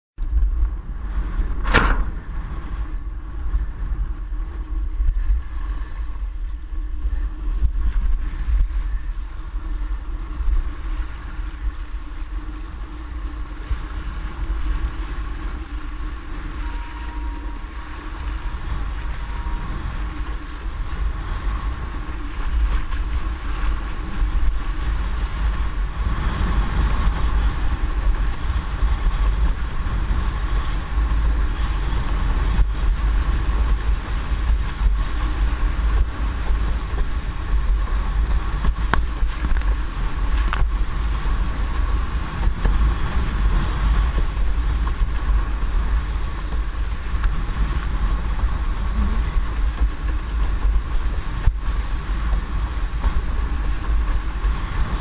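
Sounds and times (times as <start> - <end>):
water rushing under board: 0.2 - 55.0
wind buffeting microphone: 0.2 - 55.0.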